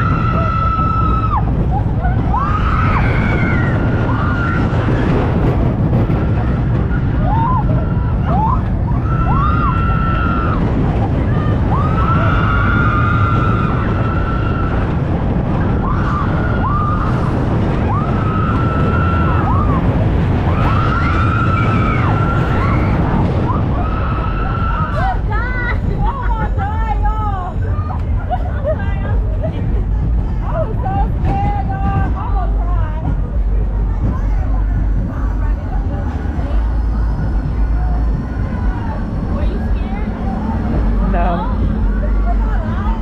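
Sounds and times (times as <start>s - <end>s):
roller coaster train rumbling: 0.0s - 43.0s
roller coaster wheels squealing: 0.0s - 43.0s
rushing air: 0.0s - 43.0s.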